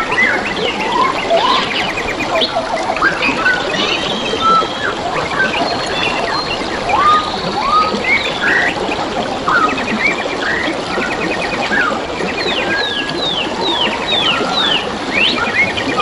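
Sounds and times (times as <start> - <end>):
forest birds chirping and calling: 0.0 - 16.0
trickle of running water: 0.0 - 16.0.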